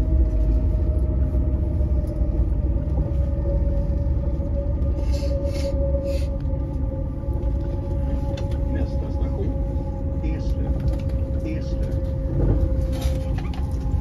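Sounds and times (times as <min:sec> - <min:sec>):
train low rumble: 0:00.0 - 0:14.0
train whine: 0:00.0 - 0:14.0.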